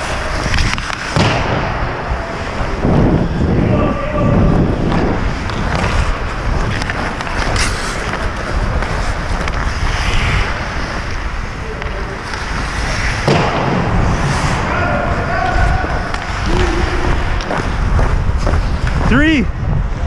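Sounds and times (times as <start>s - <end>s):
skate blades scraping ice: 0.0s - 3.5s, 4.4s - 20.0s
wind on microphone: 0.0s - 20.0s.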